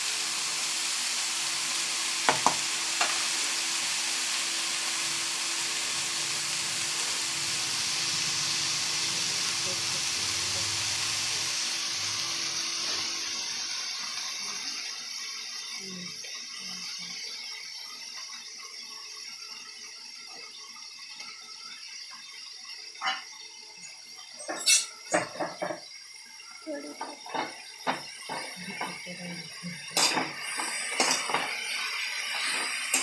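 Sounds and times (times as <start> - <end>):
cabbage sizzling in a metal pan: 0.0 - 33.0.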